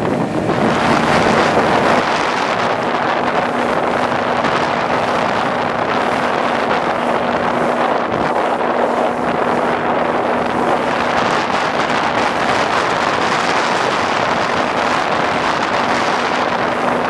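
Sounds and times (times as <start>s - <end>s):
outboard motor humming: 0.0s - 17.0s
wind buffeting microphone: 0.0s - 17.0s.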